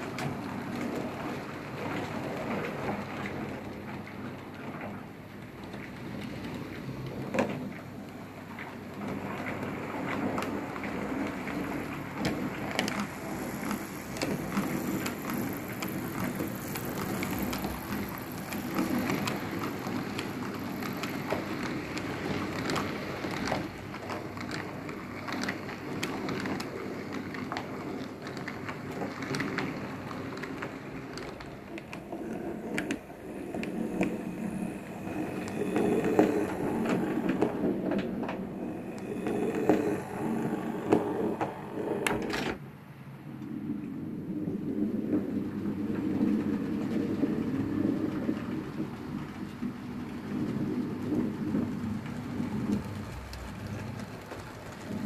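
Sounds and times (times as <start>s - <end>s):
model train wheels rattling on rails: 0.0s - 42.6s, 43.4s - 55.0s.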